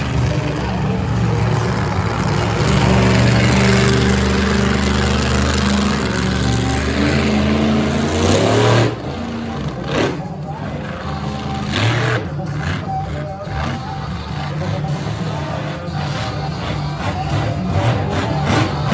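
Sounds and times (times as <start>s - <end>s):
monster truck engine revving: 0.0s - 18.9s.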